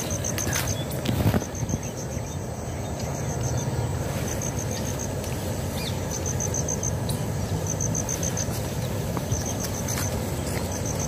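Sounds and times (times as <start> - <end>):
insect chirping: 0.0 - 11.0.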